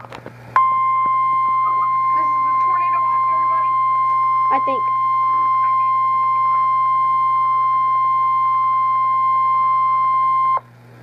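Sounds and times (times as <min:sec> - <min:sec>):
steady warning alarm tone: 0:00.6 - 0:10.6.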